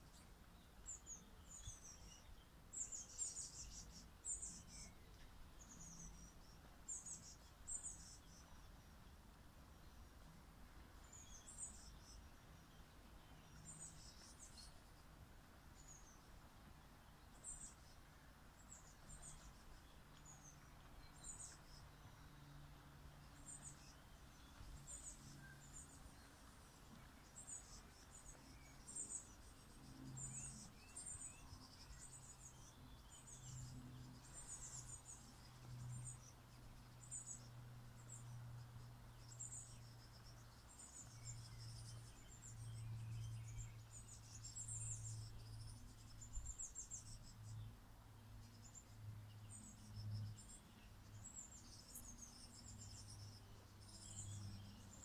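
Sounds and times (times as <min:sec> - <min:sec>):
low steady hum: 0:00.0 - 0:55.0
small birds chirping: 0:00.0 - 0:55.0.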